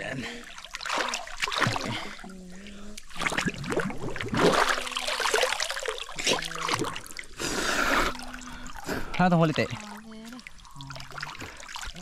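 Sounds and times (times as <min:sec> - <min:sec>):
water splashing in a creek: 0:00.0 - 0:12.0.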